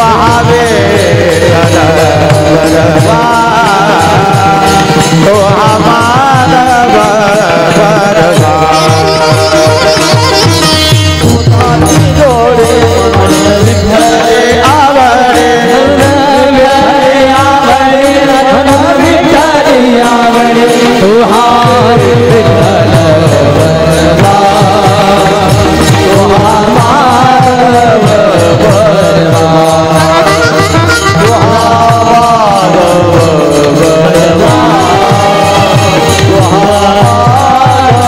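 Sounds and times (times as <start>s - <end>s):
drum rhythm: 0.0s - 38.0s
young man singing: 0.0s - 38.0s.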